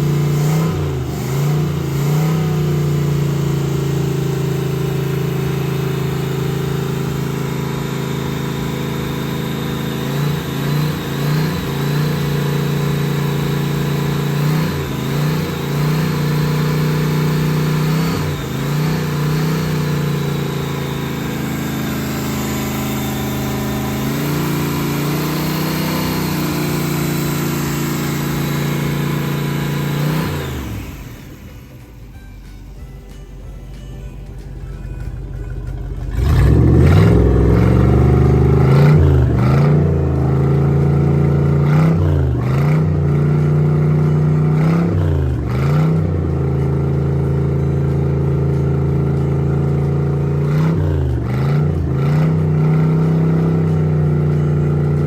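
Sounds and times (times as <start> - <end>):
boat engine running: 0.0 - 55.0
engine throttle blips: 0.0 - 55.0.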